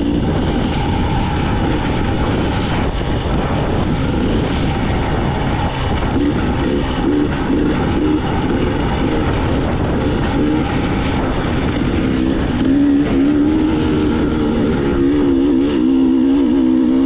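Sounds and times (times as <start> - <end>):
two-stroke dirt bike engine: 0.0 - 17.0.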